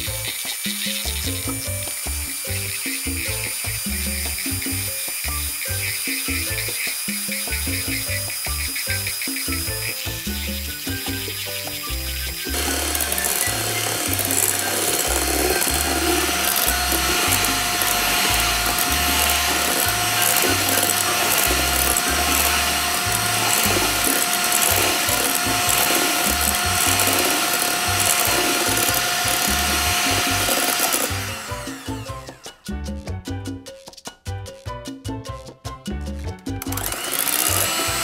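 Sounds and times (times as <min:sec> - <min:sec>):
electric hand mixer running: 0:00.0 - 0:32.7, 0:36.6 - 0:38.0.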